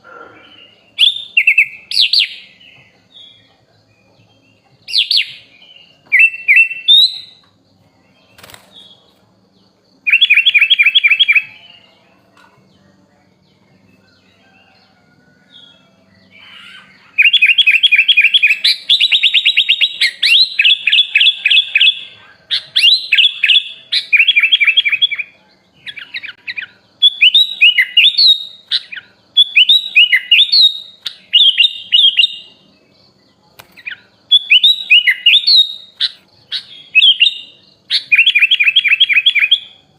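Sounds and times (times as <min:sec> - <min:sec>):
bird chirping and trilling: 0:00.0 - 0:09.2, 0:09.9 - 0:12.3, 0:13.8 - 0:32.9, 0:33.6 - 0:39.9.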